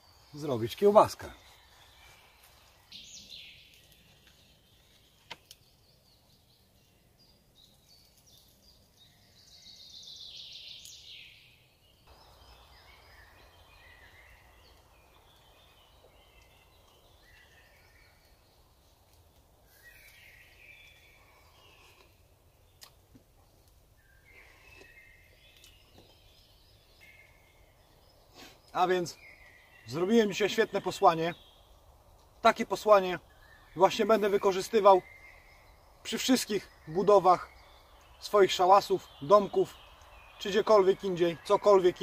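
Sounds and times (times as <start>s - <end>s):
faint woodland ambience: 0.0s - 42.0s.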